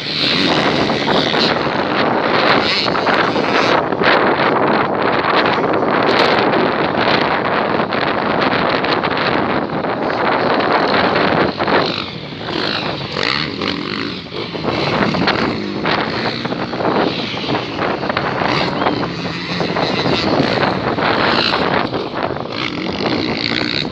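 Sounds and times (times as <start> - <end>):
motocross bikes revving: 0.0 - 23.9.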